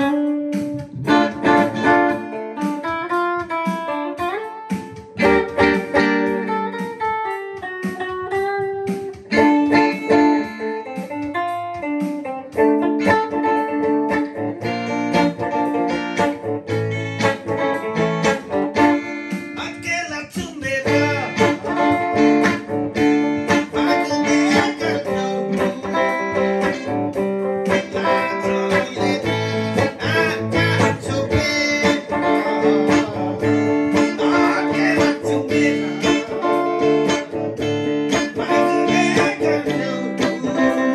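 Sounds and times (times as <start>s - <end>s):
guitar playing melody and chords: 0.0s - 40.9s.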